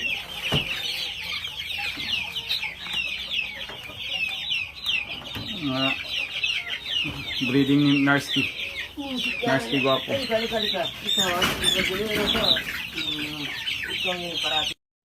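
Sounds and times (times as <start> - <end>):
chicks peeping: 0.0 - 14.8.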